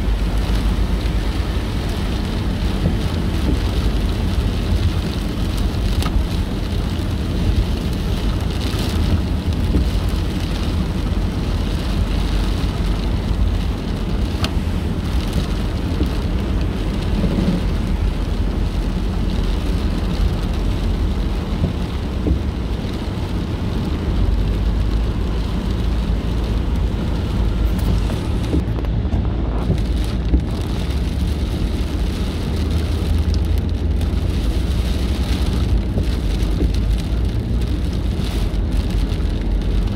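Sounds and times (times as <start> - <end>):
rain and spray hiss: 0.0 - 39.9
tyres rumbling on wet road: 0.0 - 39.9.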